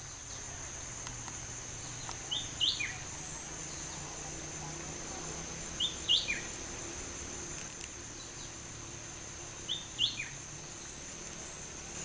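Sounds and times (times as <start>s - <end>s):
bird singing: 0.0s - 12.0s
high-pitched insect drone: 0.0s - 12.0s.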